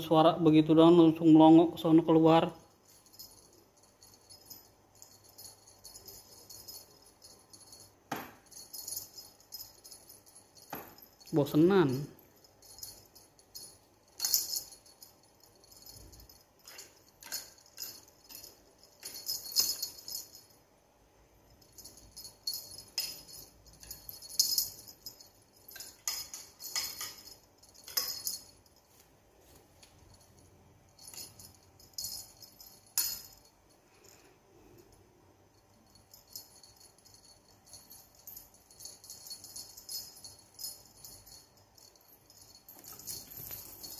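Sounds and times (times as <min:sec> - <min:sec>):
small bell jingling: 0:01.6 - 0:43.9.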